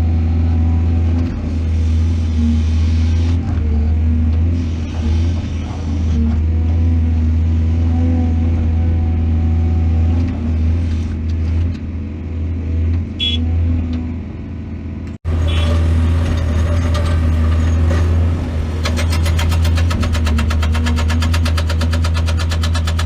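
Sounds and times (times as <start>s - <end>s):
excavator diesel engine running: 0.1s - 23.0s.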